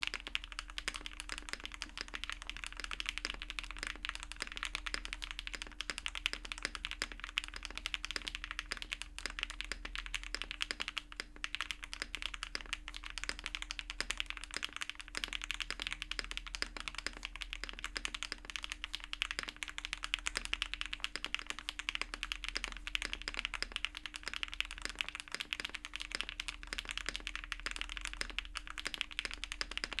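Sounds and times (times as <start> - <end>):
fast mechanical keyboard typing: 0.0 - 30.0.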